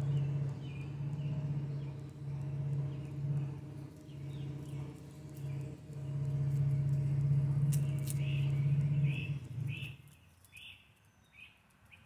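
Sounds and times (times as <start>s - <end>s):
bird chirps: 0.0s - 7.0s, 7.6s - 12.0s
motorcycle engine droning: 0.0s - 10.2s.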